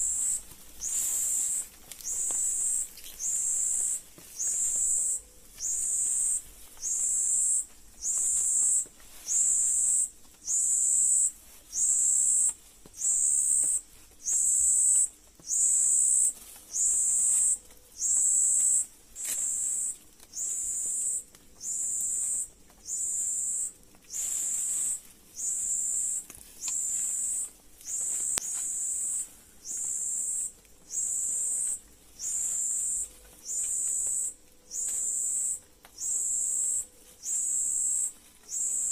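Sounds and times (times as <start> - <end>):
insect buzzing call: 0.0 - 38.9.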